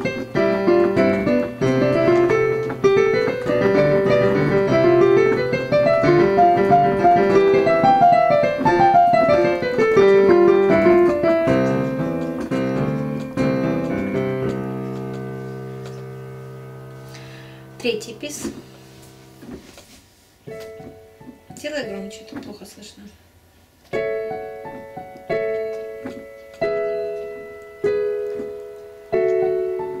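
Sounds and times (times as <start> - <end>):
piano sonatina: 0.0 - 23.1, 23.7 - 30.0.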